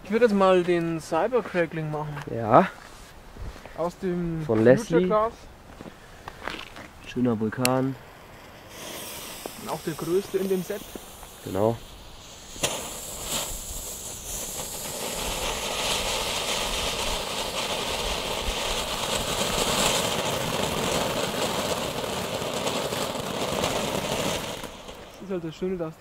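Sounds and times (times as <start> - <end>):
firework fountain hissing: 5.2 - 26.0.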